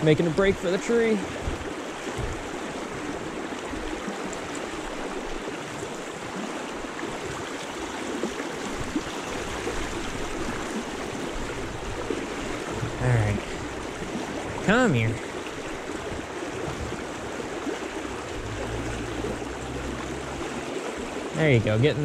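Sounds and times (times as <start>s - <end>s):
river rushing over rocks: 0.0s - 22.0s.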